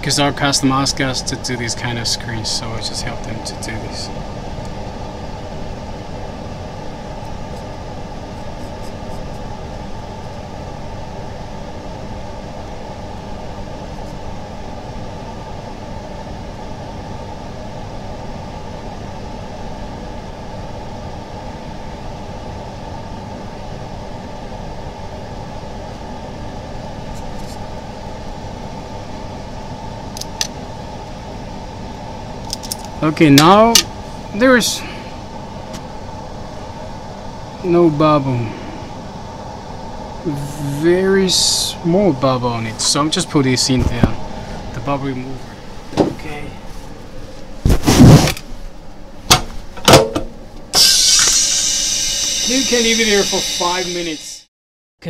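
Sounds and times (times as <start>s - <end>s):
low machine hum: 0.0s - 54.5s.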